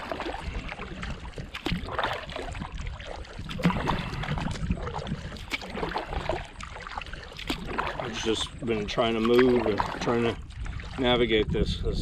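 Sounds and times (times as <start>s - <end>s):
water dripping off paddle: 0.0s - 11.1s
canoe paddle strokes in water: 0.0s - 12.0s.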